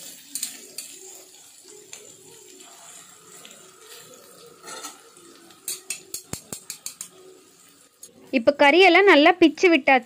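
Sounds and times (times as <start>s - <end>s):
metal spatula scraping: 0.0s - 8.3s
food sizzling on a griddle: 0.0s - 9.5s.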